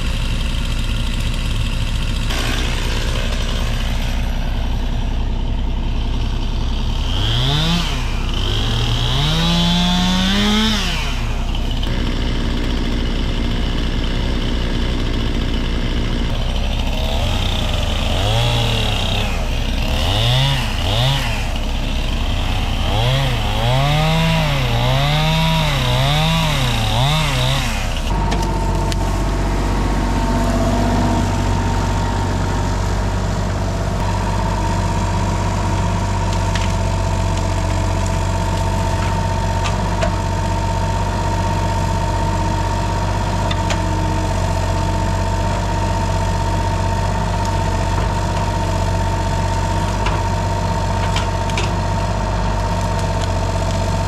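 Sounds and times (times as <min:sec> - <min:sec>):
chainsaw revving: 0:00.0 - 0:05.2, 0:06.0 - 0:54.0
excavator diesel engine running: 0:00.0 - 0:54.0.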